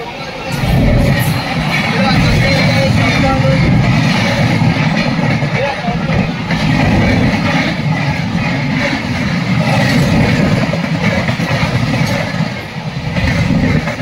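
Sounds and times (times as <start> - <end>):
passing train coaches: 0.0 - 14.0
train rumbling on rails: 0.0 - 14.0.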